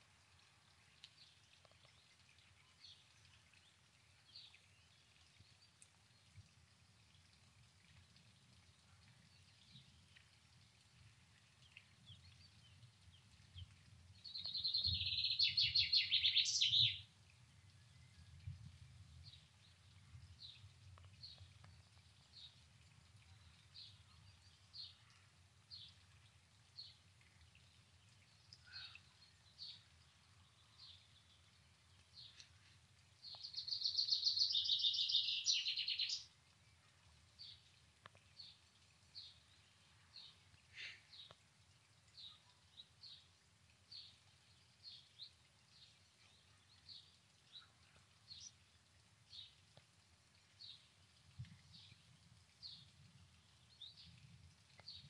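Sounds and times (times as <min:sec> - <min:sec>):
songbirds chirping: 0:00.2 - 0:55.0.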